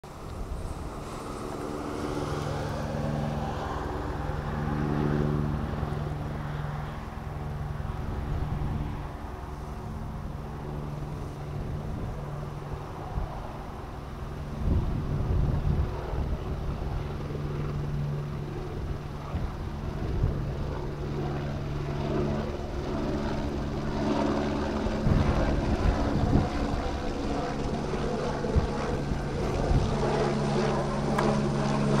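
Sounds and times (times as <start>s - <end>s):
helicopter rotor and engine hum: 0.0s - 32.0s.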